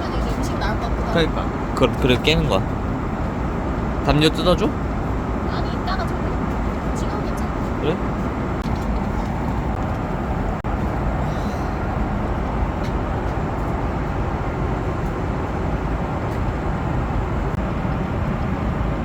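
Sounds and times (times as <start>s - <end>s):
airliner cabin noise: 0.0s - 19.0s.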